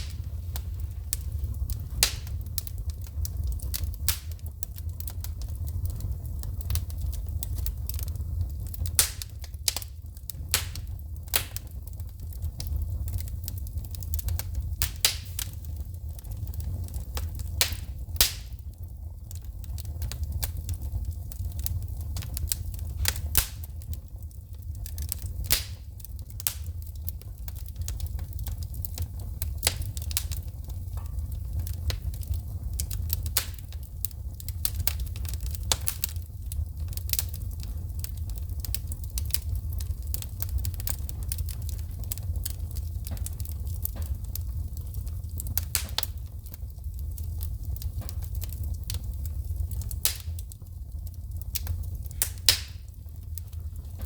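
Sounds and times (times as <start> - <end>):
low rumble of flames: 0.0 - 54.0
sharp pops from burning logs: 0.0 - 54.0
wood fire crackling: 0.0 - 54.0.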